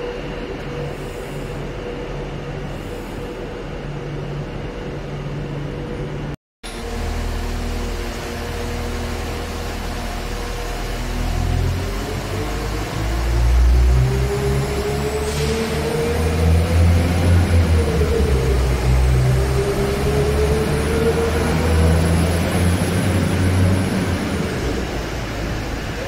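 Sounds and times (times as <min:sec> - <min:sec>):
train mechanical hum: 0:00.0 - 0:26.0.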